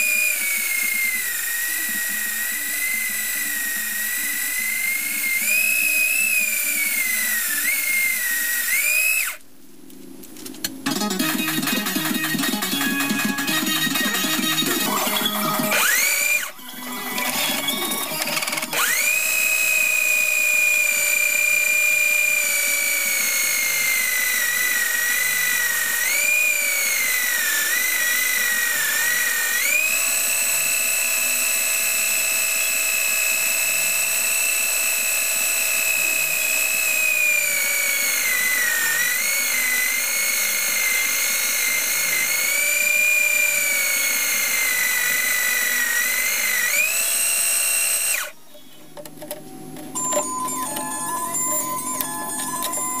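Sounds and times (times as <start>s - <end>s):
electric drill motor whining: 0.0s - 9.5s, 10.8s - 48.4s, 49.6s - 53.0s.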